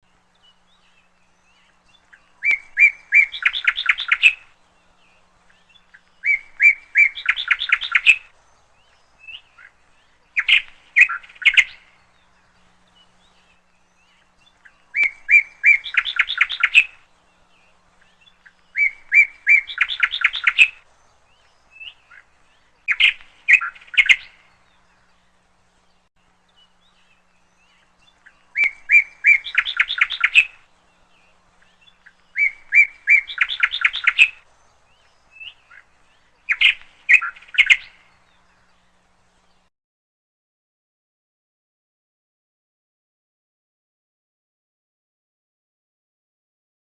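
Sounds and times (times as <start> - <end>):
songbird singing: 0.0 - 39.7.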